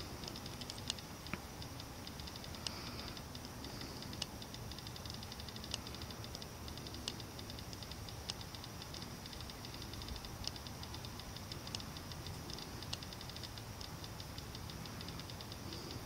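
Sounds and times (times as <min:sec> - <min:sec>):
rapid high-pitched ticking: 0:00.0 - 0:16.0.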